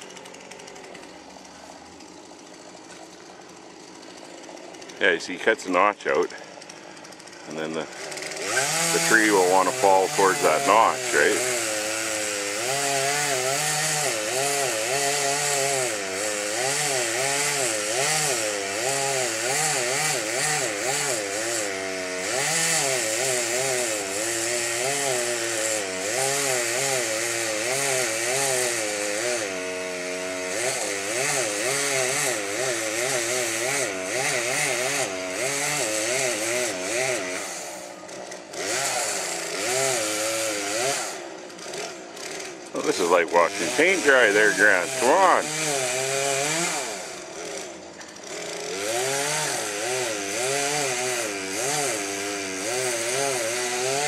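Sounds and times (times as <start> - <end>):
chainsaw cutting tree: 0.0 - 54.0.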